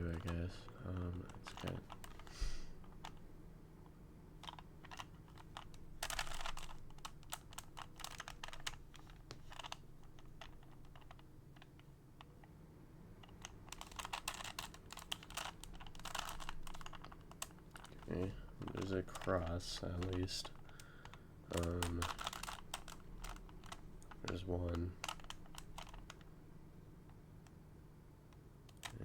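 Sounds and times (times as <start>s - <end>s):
puzzle cube plastic clicking: 0.0s - 3.3s, 4.4s - 12.6s, 13.2s - 27.6s, 28.3s - 29.0s.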